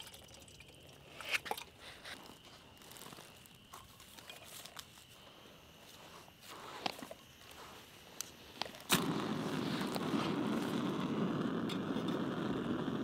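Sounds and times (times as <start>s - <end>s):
gas burner hissing: 0.8s - 13.0s.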